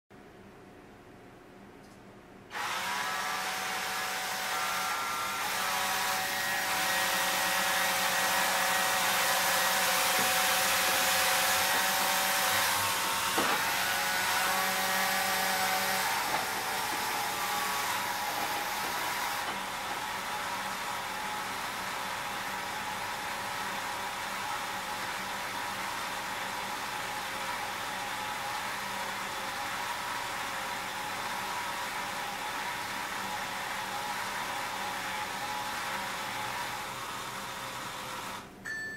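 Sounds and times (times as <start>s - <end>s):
electric motors whining: 2.5s - 38.5s.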